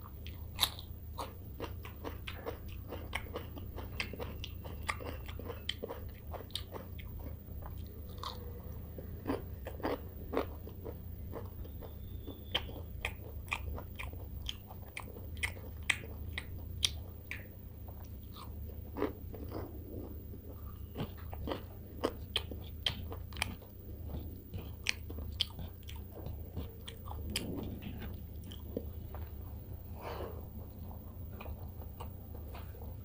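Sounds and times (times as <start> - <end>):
eating rice by hand: 0.0 - 33.0
person chewing crunchy food: 0.0 - 33.0.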